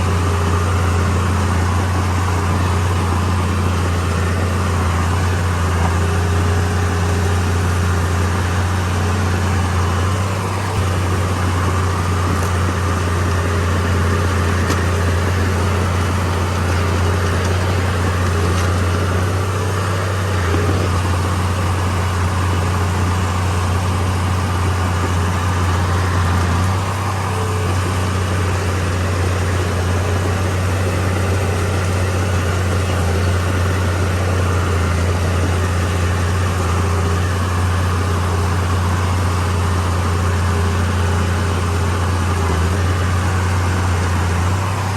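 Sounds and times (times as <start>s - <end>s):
heavy diesel engine droning: 0.0s - 44.9s.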